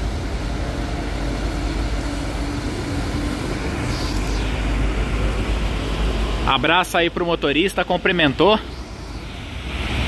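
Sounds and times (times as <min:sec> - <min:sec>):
coach engine rumble: 0:00.0 - 0:10.0
tyres on wet pavement: 0:00.0 - 0:10.0.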